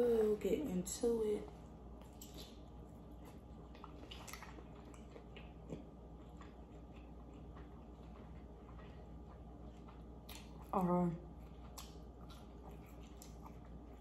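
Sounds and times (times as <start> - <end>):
faint chewing: 1.9 - 14.0.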